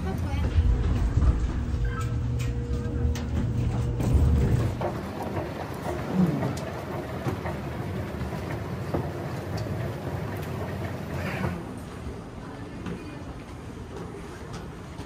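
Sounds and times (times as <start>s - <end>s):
vehicle low rumble: 0.0s - 12.4s.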